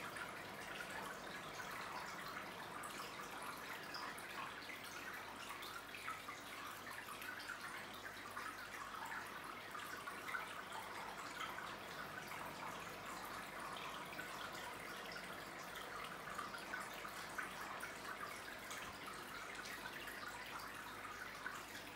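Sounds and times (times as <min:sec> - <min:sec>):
water trickling and splashing: 0:00.0 - 0:21.9.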